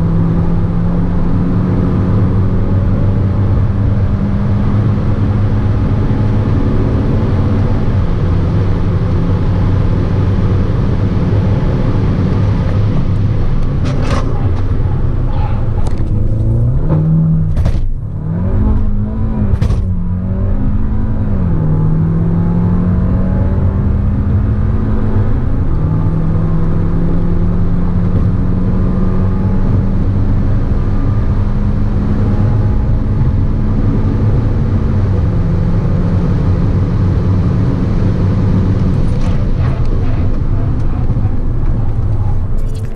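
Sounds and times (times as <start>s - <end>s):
car engine under load: 0.0s - 42.9s
road noise: 0.0s - 42.9s.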